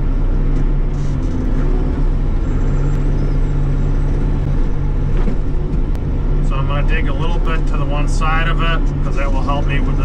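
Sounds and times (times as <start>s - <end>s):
excavator diesel engine droning: 0.0s - 10.0s.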